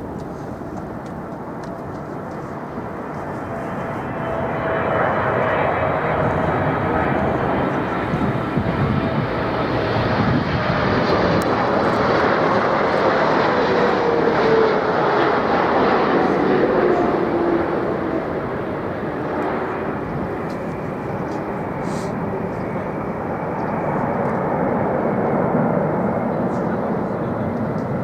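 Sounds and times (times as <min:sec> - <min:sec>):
jet airliner flying past: 0:00.0 - 0:28.0.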